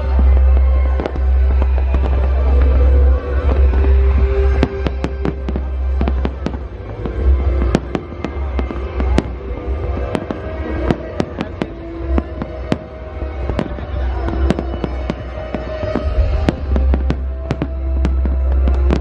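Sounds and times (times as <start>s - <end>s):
deep rumble: 0.0s - 19.0s
fireworks bursting: 0.0s - 19.0s
music playing: 0.0s - 19.0s.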